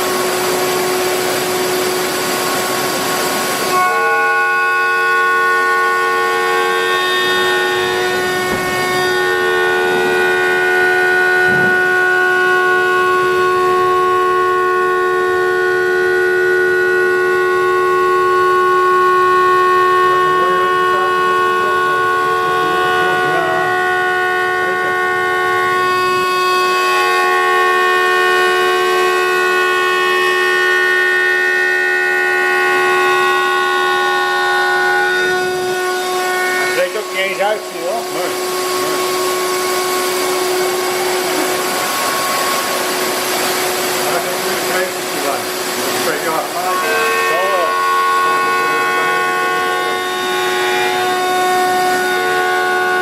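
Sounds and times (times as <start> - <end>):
router spindle high-pitched whine: 0.0 - 53.0.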